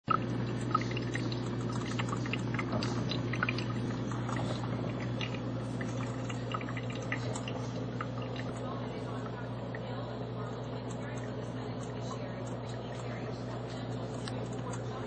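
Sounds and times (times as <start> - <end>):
coffee maker water bubbling: 0.0 - 15.0
steady low hum: 0.1 - 15.0.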